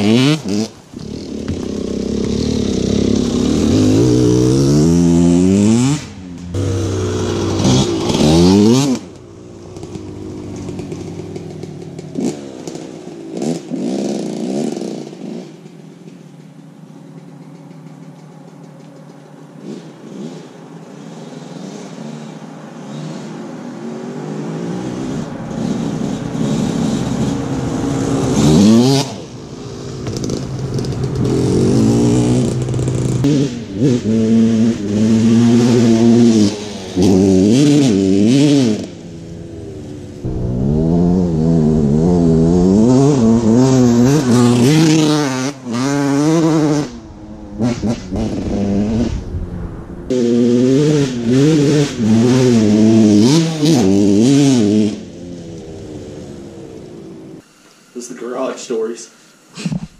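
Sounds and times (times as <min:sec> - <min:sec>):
dirt bike engine revving: 0:00.0 - 0:16.1, 0:19.6 - 0:57.4.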